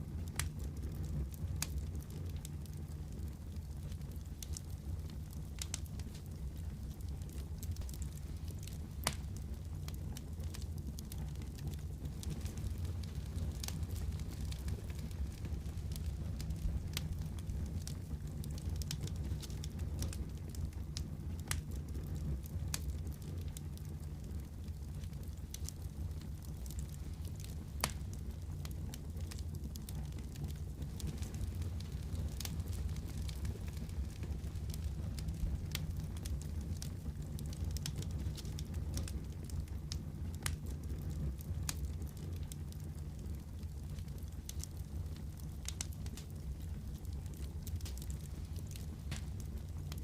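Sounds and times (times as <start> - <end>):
fire crackling and popping: 0.0 - 50.0
fire rumbling in fireplace: 0.0 - 50.0.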